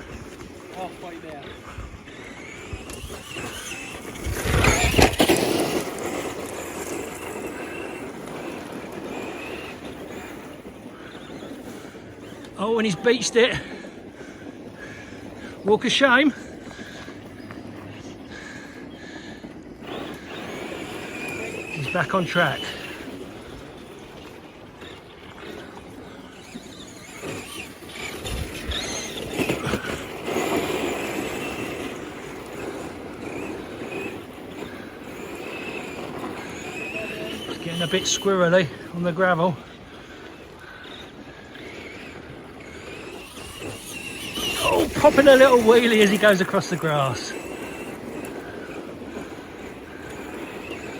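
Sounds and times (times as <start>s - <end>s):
rc truck electric motor whining: 0.0s - 50.9s
tyres on track: 0.0s - 50.9s.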